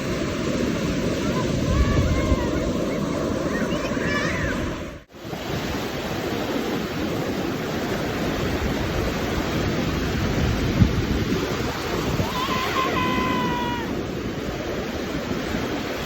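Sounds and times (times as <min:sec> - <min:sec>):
sea surf washing onto beach: 0:00.0 - 0:16.0.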